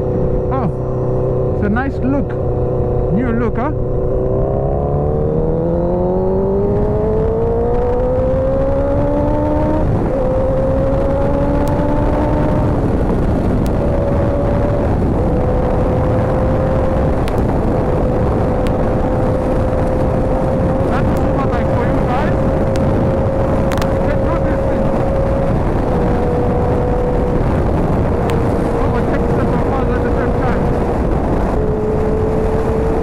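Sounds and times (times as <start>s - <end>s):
motorcycle engine revving: 0.0s - 33.0s
wind and road rush: 0.0s - 33.0s.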